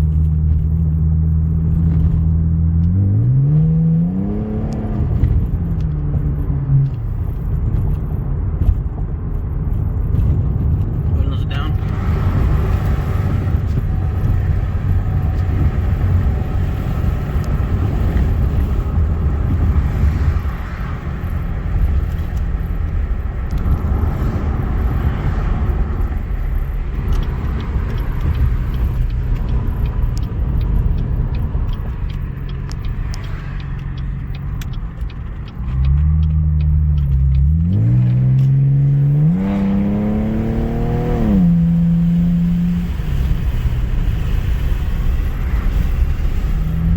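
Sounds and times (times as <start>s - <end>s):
car exhaust rumble: 0.0s - 46.9s.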